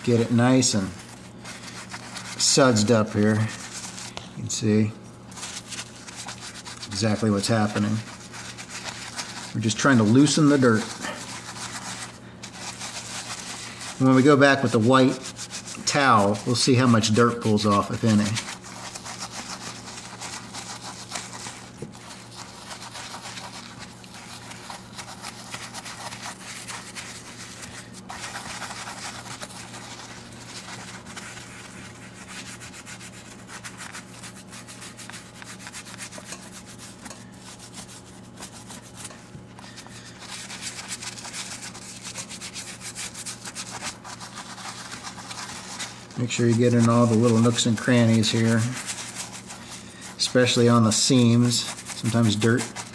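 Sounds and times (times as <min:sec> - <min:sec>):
brush scrubbing leather: 0:00.0 - 0:52.9
steady low hum: 0:00.0 - 0:52.9.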